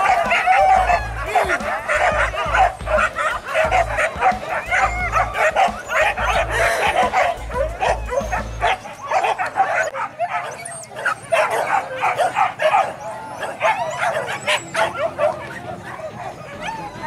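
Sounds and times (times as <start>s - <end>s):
dogs yelping and barking: 0.0s - 17.0s.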